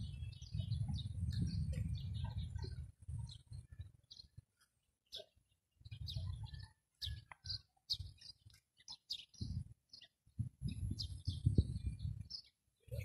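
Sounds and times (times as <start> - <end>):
wind rumbling on microphone: 0.0 - 4.6, 5.7 - 8.5, 9.1 - 13.0
small birds chirping: 0.0 - 13.0.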